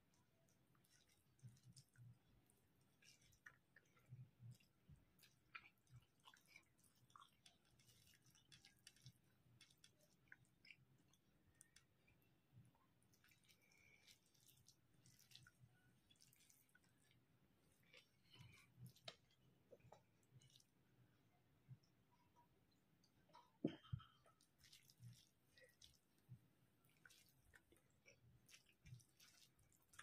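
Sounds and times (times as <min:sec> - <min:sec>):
wet chewing sounds: 0:00.0 - 0:20.9, 0:23.0 - 0:30.0
fingers mixing rice with curry: 0:00.0 - 0:30.0.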